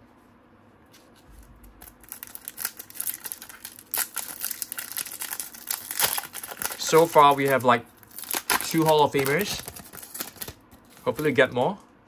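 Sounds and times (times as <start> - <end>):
foil wrapper crinkling and tearing: 1.6 - 11.4.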